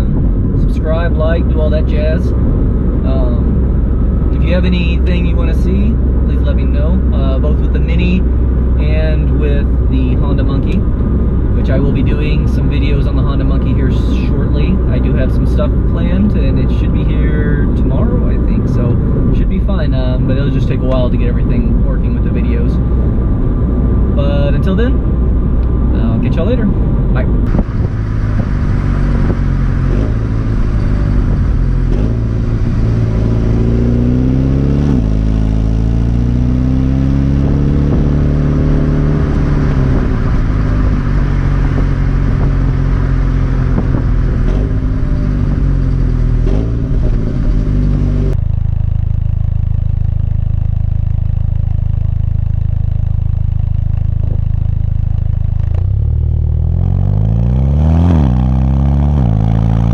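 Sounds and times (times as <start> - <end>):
car engine idling: 0.0 - 36.6, 37.2 - 57.4
car engine revving: 0.0 - 48.6, 54.0 - 59.9.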